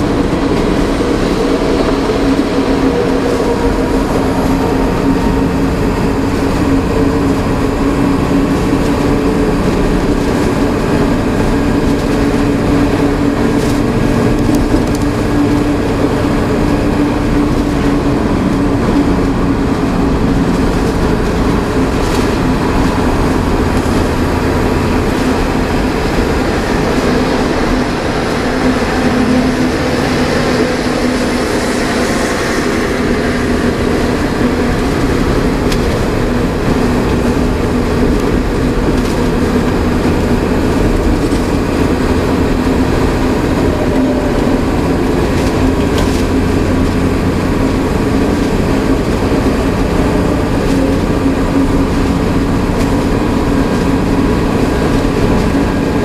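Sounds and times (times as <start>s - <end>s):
diesel truck engine running: 0.0s - 56.0s
tyre and road noise: 0.0s - 56.0s.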